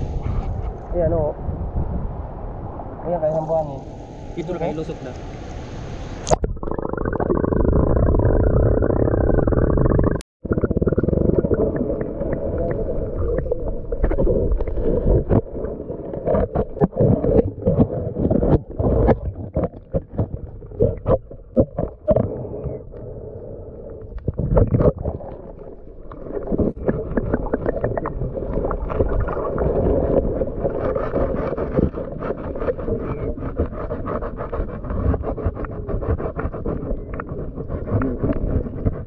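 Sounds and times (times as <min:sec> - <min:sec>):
underwater water rumble: 0:00.0 - 0:04.6, 0:05.2 - 0:39.0
underwater knocks and clicks: 0:06.3 - 0:22.8, 0:24.1 - 0:39.0.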